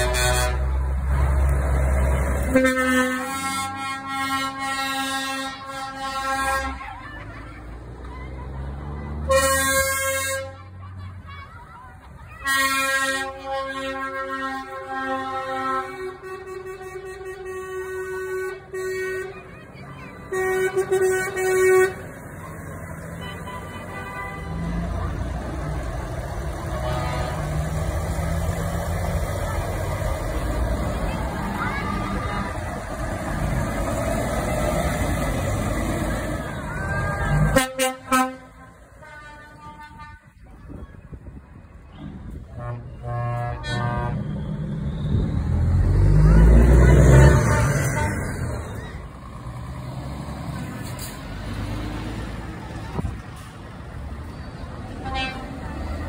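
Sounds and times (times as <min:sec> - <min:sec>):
truck diesel engine rumbling: 0:00.0 - 0:56.0.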